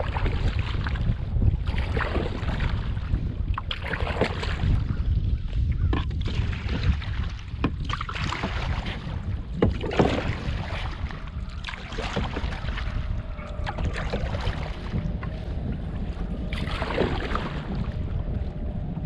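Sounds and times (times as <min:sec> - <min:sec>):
water splashing around canoe: 0:00.0 - 0:19.0
wind buffeting microphone: 0:00.0 - 0:19.0.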